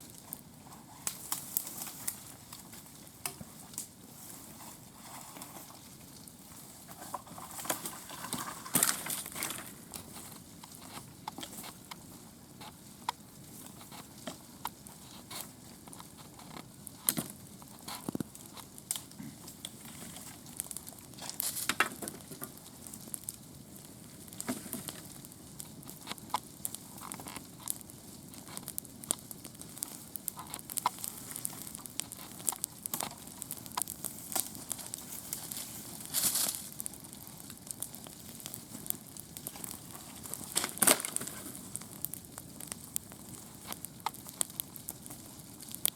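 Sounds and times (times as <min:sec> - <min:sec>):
campfire crackling: 0:00.0 - 0:45.9
fire pops and snaps: 0:00.0 - 0:45.9.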